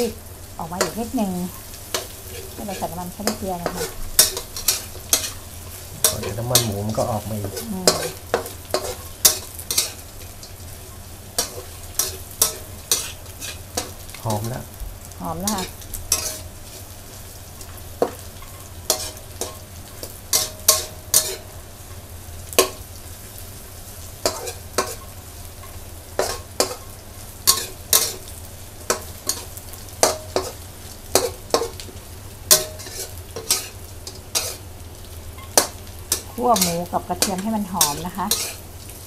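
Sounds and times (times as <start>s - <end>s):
oil sizzling: 0.0s - 39.0s
metal spatula scraping wok: 0.8s - 14.4s, 15.3s - 16.9s, 17.6s - 21.5s, 24.2s - 31.8s, 32.5s - 34.7s, 35.4s - 38.7s.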